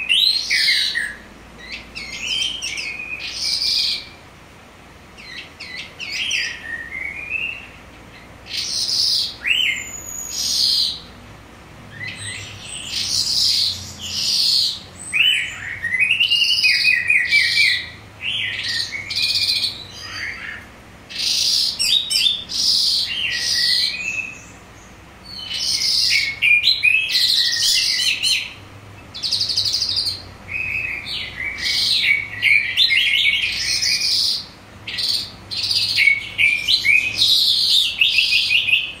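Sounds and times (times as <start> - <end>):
lark singing: 0.0 - 4.2, 5.1 - 11.2, 11.9 - 39.0.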